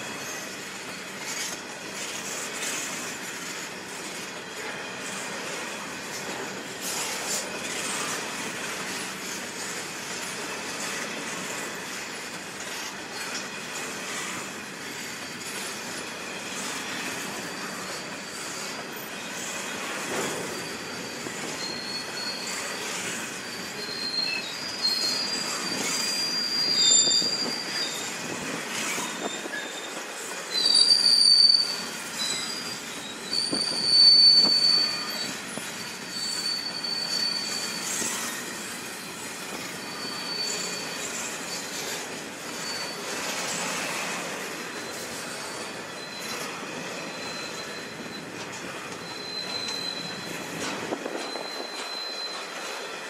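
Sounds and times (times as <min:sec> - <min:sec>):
railway wagons rumbling: 0:00.0 - 0:53.0
train wheels squealing: 0:00.0 - 0:53.0.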